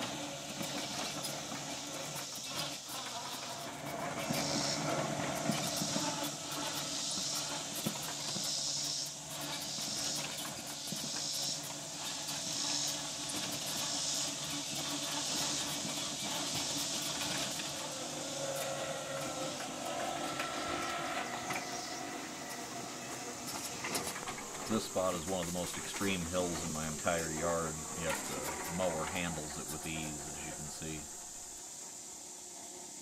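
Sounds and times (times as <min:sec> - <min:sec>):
electric motor and drive hum: 0:00.0 - 0:33.0
high hiss: 0:00.0 - 0:33.0.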